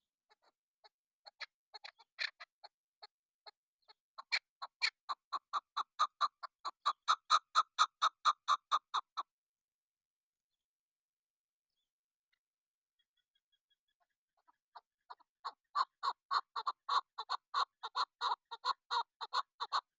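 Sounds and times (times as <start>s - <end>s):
partridge clucking calls: 0.0s - 9.4s, 13.0s - 19.9s.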